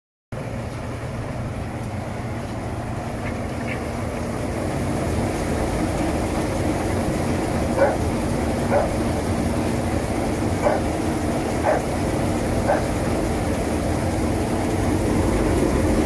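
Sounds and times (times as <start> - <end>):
machine humming: 0.4 - 16.0
water spray rushing: 3.0 - 16.0.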